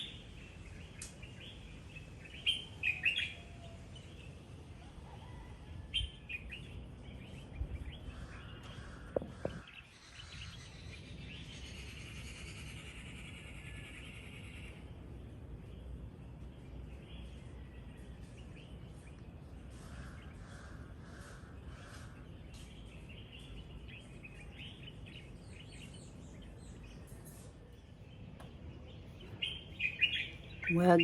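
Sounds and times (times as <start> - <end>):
birds chirping: 0.0 - 31.0
lower evenly spaced bird notes: 0.0 - 31.0.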